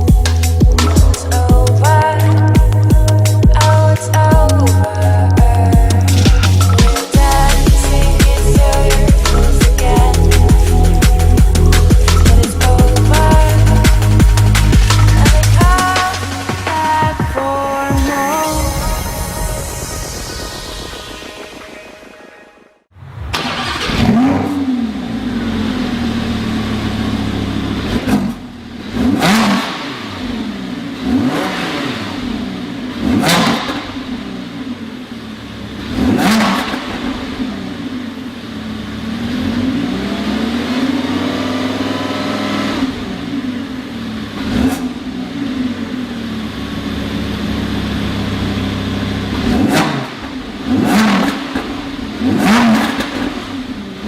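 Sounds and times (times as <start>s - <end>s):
engine revving through exhaust: 0.0s - 16.4s, 23.3s - 54.0s.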